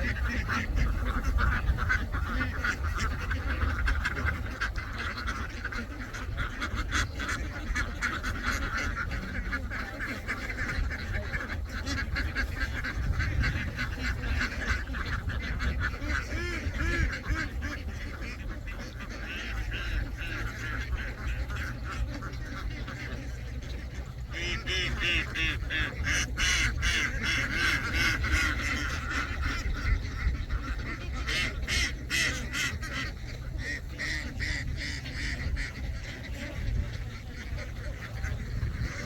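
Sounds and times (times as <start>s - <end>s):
ducks quacking: 0.0s - 39.0s.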